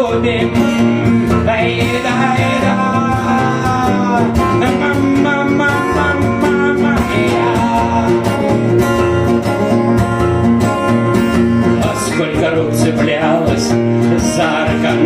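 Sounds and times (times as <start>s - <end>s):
person singing: 0.0s - 9.0s, 11.6s - 15.0s
acoustic guitar accompaniment: 0.0s - 15.0s.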